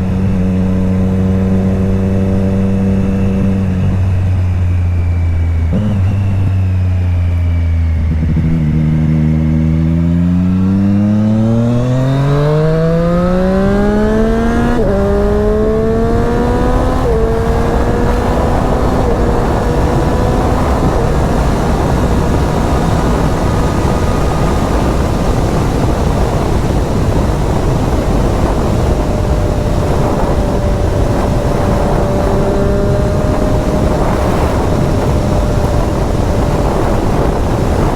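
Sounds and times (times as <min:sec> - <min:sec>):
motorcycle engine accelerating: 0:00.0 - 0:37.9
wind rush: 0:00.0 - 0:37.9.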